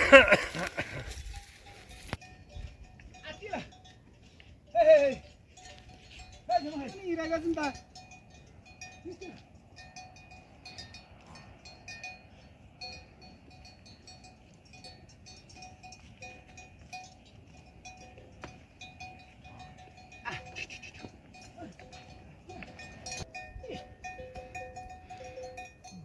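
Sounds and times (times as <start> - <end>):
livestock bells clinking: 0.0 - 26.0.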